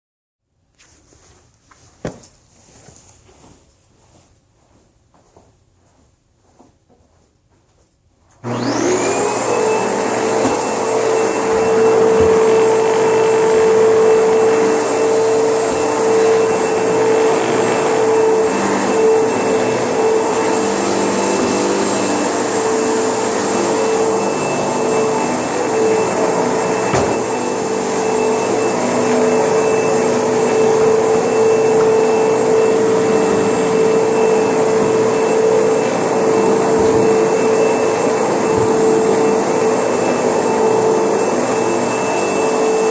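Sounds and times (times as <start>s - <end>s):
vacuum cleaner motor running: 8.4s - 42.9s.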